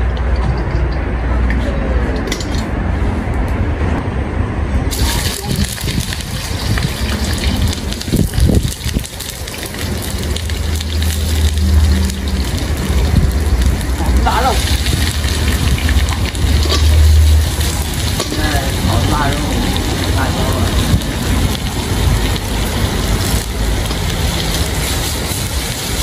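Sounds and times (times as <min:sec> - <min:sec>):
low burner rumble: 0:00.0 - 0:26.0
food sizzling in hot oil: 0:04.9 - 0:26.0.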